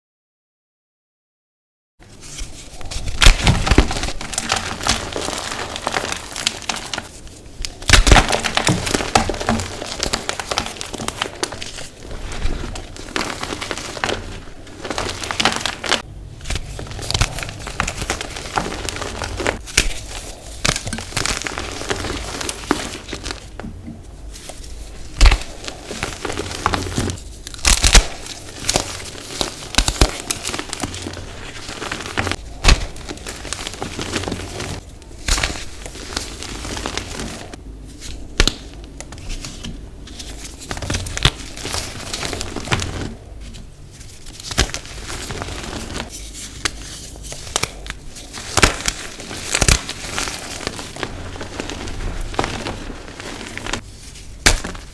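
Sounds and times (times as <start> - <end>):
chalk crunching by hand: 2.2 - 37.6, 40.2 - 54.9.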